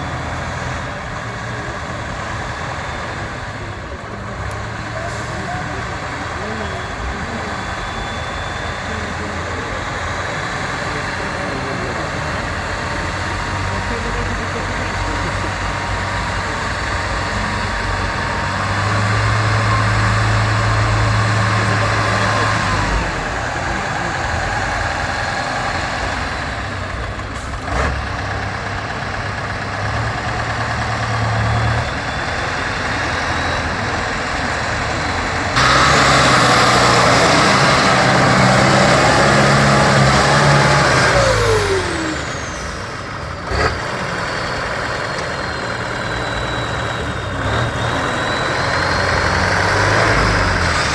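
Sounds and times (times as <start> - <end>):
truck engine revving: 0.0 - 50.9.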